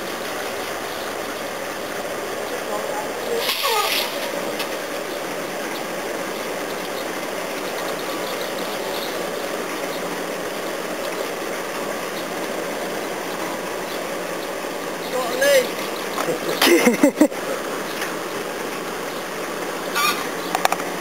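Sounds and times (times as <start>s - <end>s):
crane engine running: 0.0s - 21.0s.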